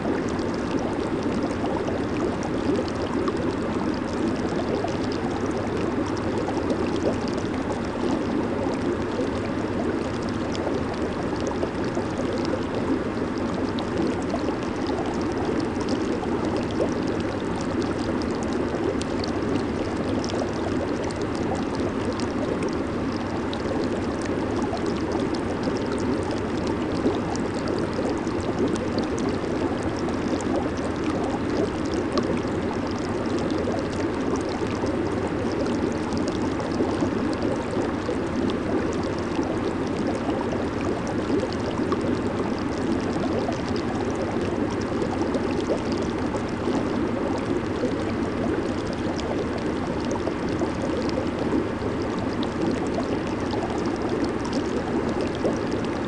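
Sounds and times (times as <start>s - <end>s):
jacuzzi water bubbling: 0.0s - 56.0s.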